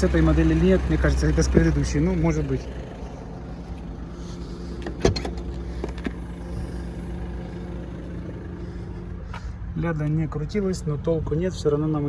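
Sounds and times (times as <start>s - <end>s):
diesel engine idling: 0.0s - 9.8s.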